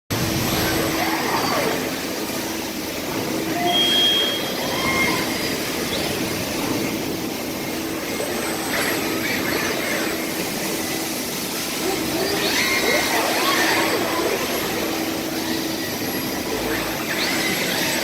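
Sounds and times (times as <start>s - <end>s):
industrial machinery running: 0.1s - 18.0s.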